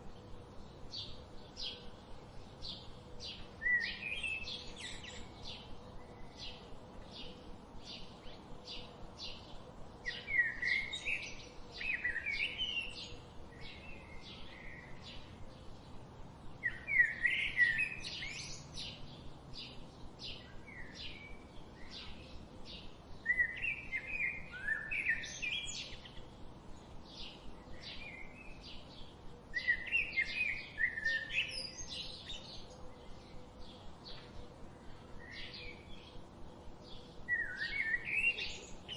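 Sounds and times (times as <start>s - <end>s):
bird warbling song: 2.6s - 16.0s, 16.6s - 36.2s, 36.8s - 38.9s.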